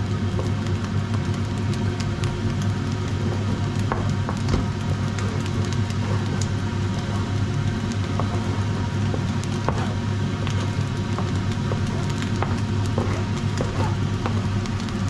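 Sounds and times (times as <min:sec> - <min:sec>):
meat sizzling in a pot: 0:00.0 - 0:15.0
steady low hum: 0:00.0 - 0:15.0.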